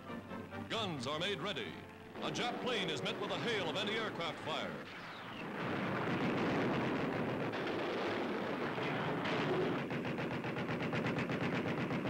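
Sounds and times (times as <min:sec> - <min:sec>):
anti-aircraft guns firing: 0:02.2 - 0:12.0.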